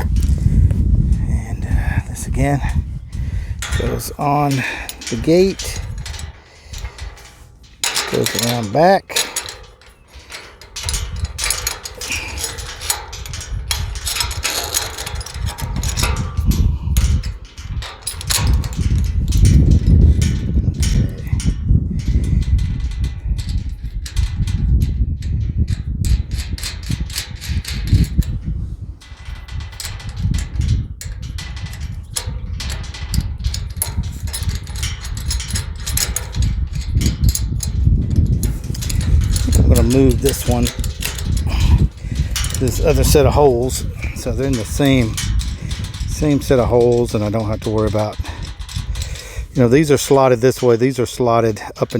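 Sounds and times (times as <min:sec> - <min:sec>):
low rumble: 0:00.0 - 0:08.3, 0:09.4 - 0:26.6, 0:27.3 - 0:49.8
metal parts clinking: 0:02.2 - 0:51.9.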